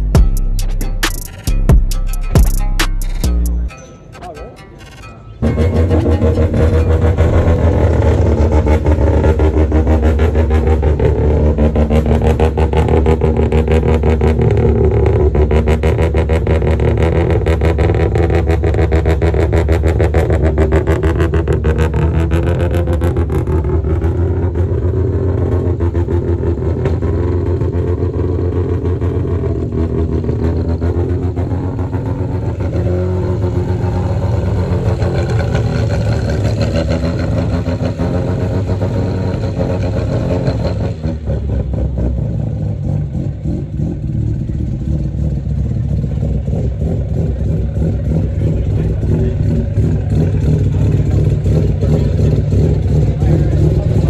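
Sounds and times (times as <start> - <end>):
car engine running: 0.0 - 3.7, 5.4 - 54.0.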